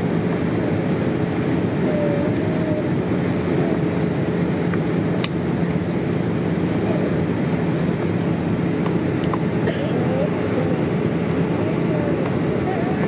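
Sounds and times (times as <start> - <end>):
aircraft cabin engine drone: 0.0 - 13.0.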